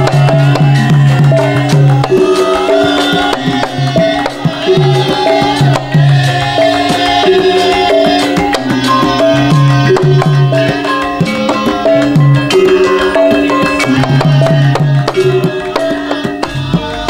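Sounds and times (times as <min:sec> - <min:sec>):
hand drum strokes: 0:00.0 - 0:17.0
ringing metallophone notes: 0:00.0 - 0:17.0.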